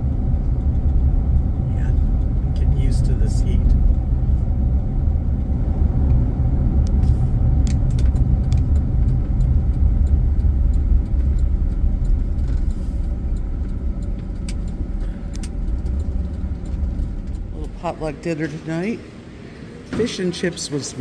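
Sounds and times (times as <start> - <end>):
engine and road rumble: 0.0 - 21.0.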